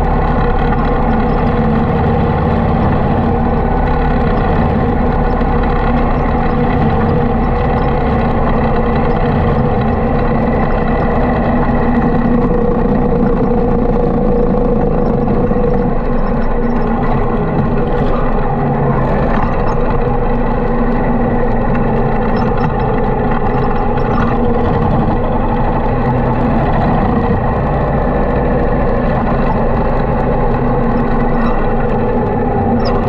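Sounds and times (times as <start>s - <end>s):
motorcycle engine running steadily: 0.0s - 33.0s.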